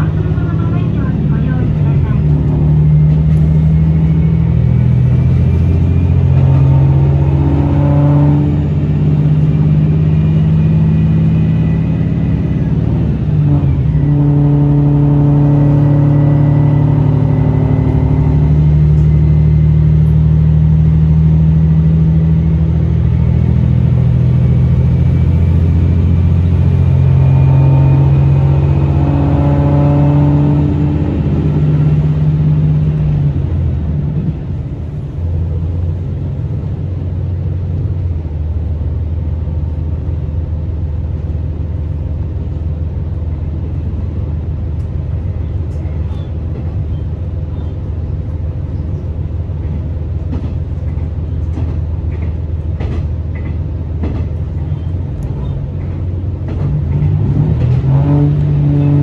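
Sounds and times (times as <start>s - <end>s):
diesel engine droning: 0.0s - 59.0s
train running gear rumble: 0.0s - 59.0s.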